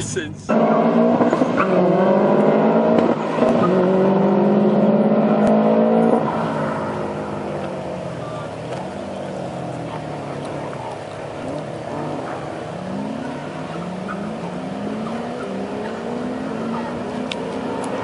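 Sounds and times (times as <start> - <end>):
car accelerating through gears: 0.5 - 18.0
car engine idling: 2.3 - 18.0.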